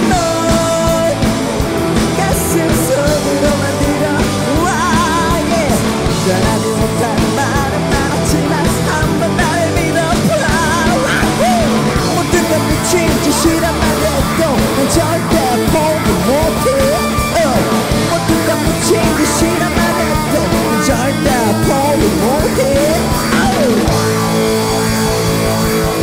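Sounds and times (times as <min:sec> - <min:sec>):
lead guitar bending pitch: 0:00.0 - 0:26.0
rock band playing live: 0:00.0 - 0:26.0.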